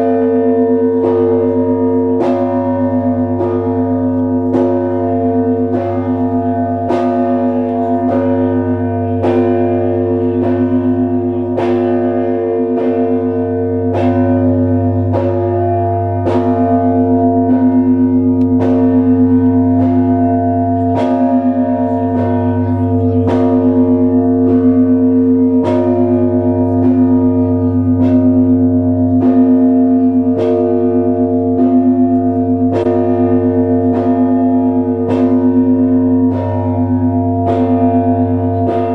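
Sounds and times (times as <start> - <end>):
deep hum of large bell: 0.0 - 38.9
small church bells ringing: 0.0 - 38.9.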